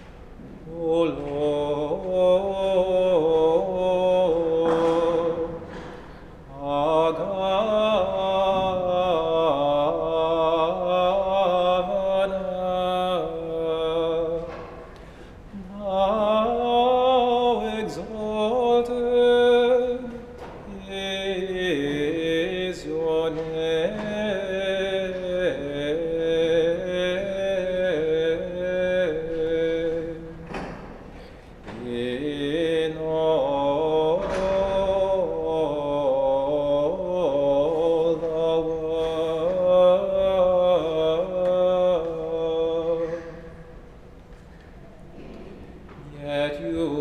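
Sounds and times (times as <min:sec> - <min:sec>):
slow church chant: 0:00.0 - 0:47.0.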